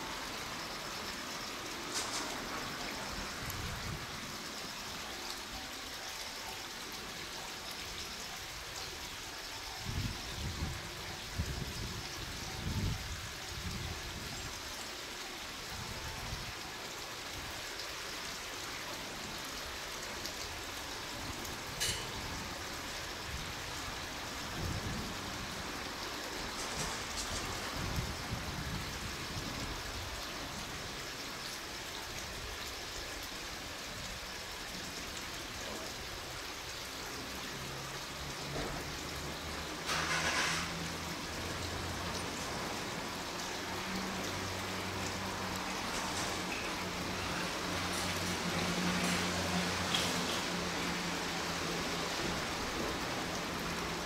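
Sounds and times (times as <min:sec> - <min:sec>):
outdoor hiss: 0:00.0 - 0:54.0.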